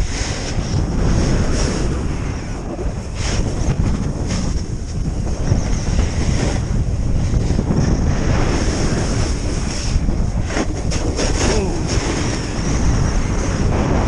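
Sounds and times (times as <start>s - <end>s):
skis sliding over snow: 0.0s - 14.0s
wind buffeting microphone: 0.0s - 14.0s.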